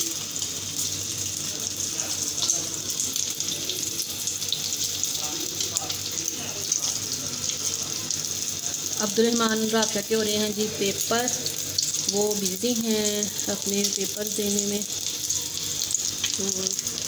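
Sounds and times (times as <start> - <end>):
patties frying in oil: 0.0 - 17.0.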